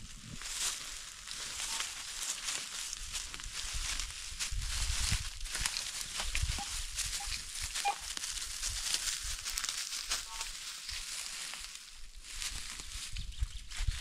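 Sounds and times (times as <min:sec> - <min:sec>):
dry leaves crackling: 0:00.0 - 0:14.0
footsteps through leaves: 0:00.0 - 0:14.0.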